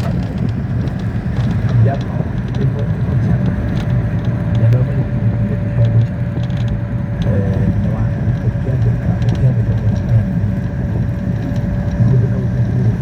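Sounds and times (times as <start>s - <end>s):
minibus engine and road rumble: 0.0s - 13.0s
steady whine: 0.0s - 13.0s.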